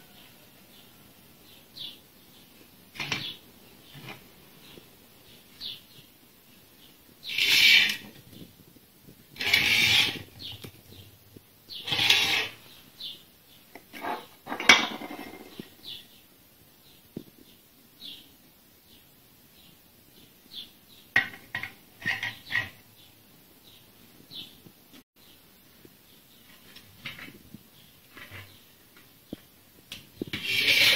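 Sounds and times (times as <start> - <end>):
small birds chirping: 0.0 - 14.4, 15.2 - 30.9.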